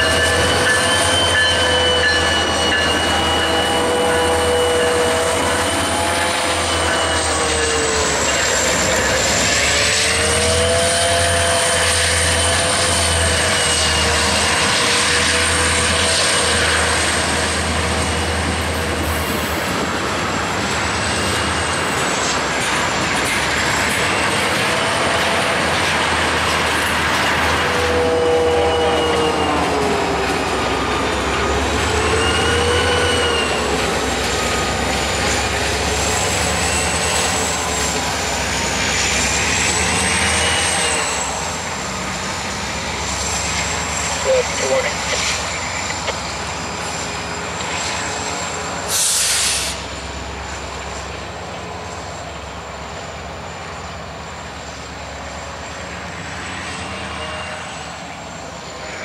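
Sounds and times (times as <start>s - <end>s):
diesel locomotive engine throb: 0.0s - 59.0s
train wheels squealing on rail: 0.0s - 59.0s.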